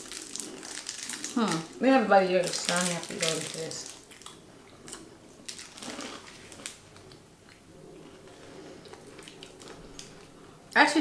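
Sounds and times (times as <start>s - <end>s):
people chewing crunchy chocolate: 0.0s - 1.8s, 2.4s - 10.6s.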